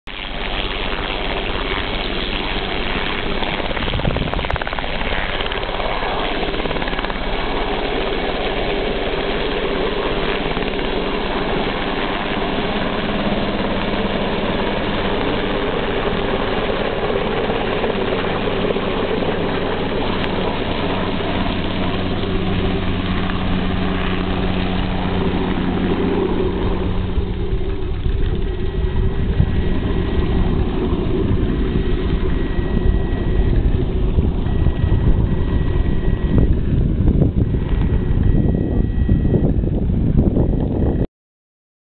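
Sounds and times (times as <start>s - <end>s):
helicopter engine and rotor drone: 0.1s - 41.1s.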